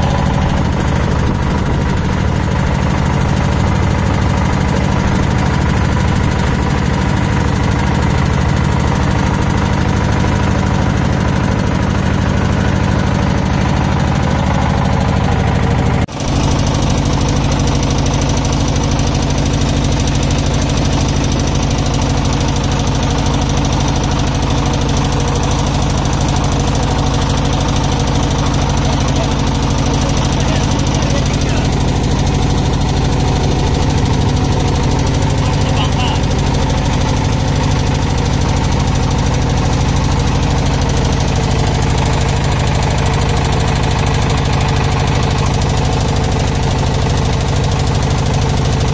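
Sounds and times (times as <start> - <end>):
motorboat engine running: 0.0 - 48.9.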